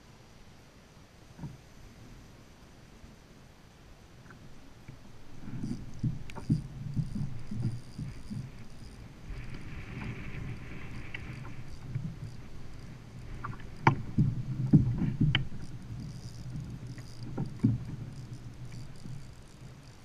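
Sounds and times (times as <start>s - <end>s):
low rumble of water and hull: 0.0s - 20.0s.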